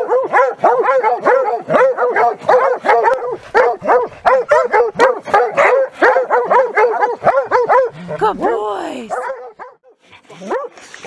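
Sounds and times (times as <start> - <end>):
hounds barking fast: 0.0 - 10.8.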